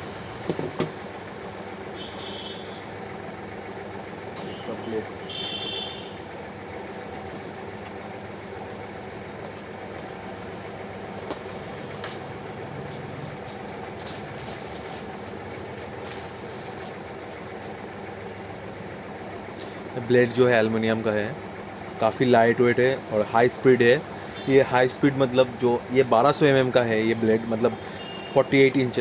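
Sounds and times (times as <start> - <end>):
machine hum: 0.0 - 29.0
noisy background: 0.0 - 29.0.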